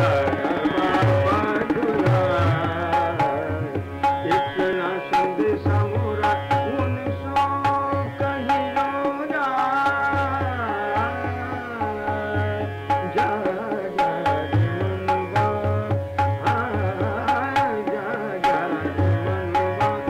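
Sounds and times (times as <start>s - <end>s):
man singing: 0.0s - 20.0s
tabla strokes: 0.0s - 20.0s.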